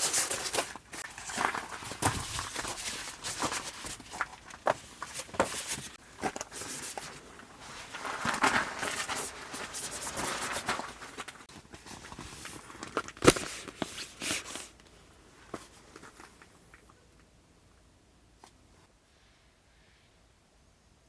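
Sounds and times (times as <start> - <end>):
camping gear clicking and rustling: 0.0 - 17.3.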